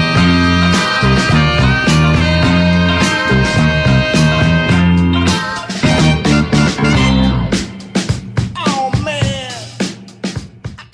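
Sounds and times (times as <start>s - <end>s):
background music: 0.0s - 10.9s.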